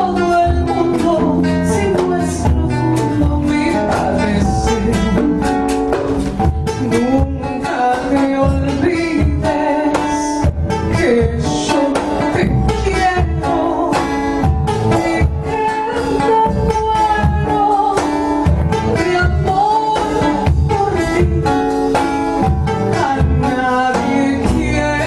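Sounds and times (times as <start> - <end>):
acoustic guitar: 0.0 - 25.0
woman singing: 0.0 - 25.0.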